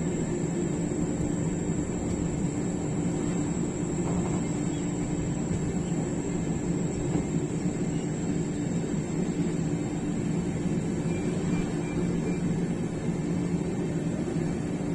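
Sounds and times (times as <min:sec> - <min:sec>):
faint high whine: 0:00.0 - 0:14.9
train rumble: 0:00.0 - 0:14.9.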